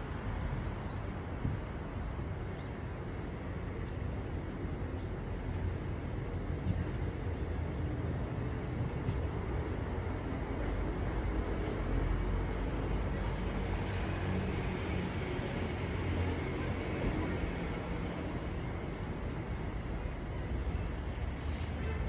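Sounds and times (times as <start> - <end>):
low city rumble: 0.0 - 22.0.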